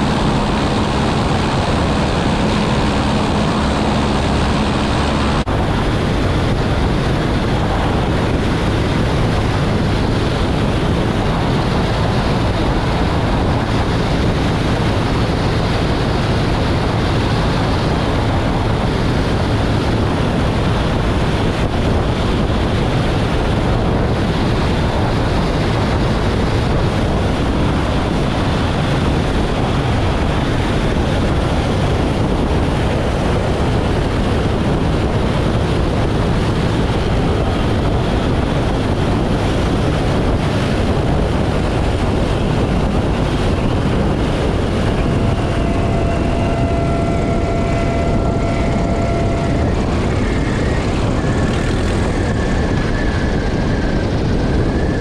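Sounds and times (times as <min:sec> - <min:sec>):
airplane engine running: 0:00.0 - 0:55.0
wind noise on microphone: 0:00.0 - 0:55.0.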